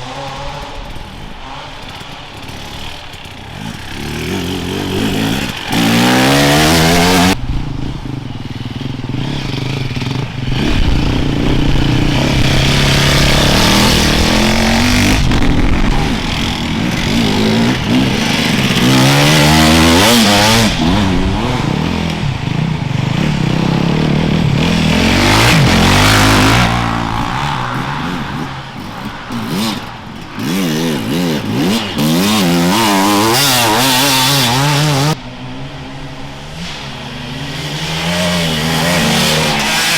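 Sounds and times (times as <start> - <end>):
motorcycles revving past: 0.0 - 39.9.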